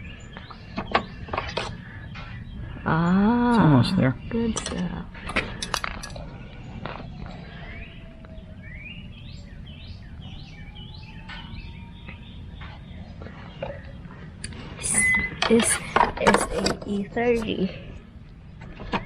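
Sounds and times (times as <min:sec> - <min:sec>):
bird chirping: 0:00.0 - 0:19.0
low background rumble: 0:00.0 - 0:19.0.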